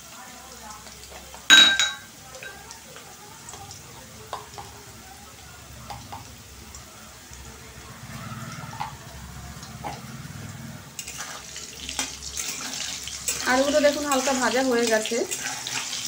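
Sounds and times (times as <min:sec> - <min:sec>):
potatoes frying in hot oil: 0:00.0 - 0:16.0.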